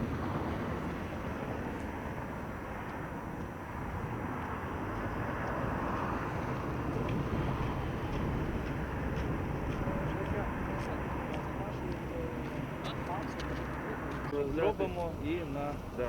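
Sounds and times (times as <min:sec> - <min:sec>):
vehicle engines rumbling: 0:00.0 - 0:16.0.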